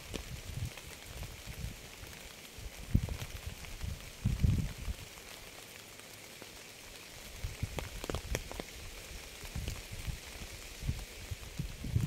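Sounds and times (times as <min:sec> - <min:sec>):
rain hissing: 0:00.0 - 0:12.0
raindrops clicking: 0:00.0 - 0:12.0.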